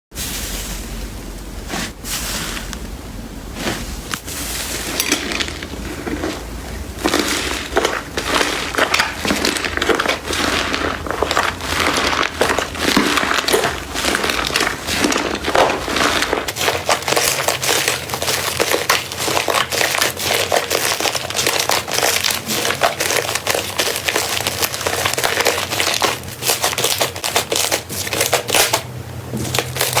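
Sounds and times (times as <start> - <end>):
slime crackling and squishing: 3.5 - 30.0.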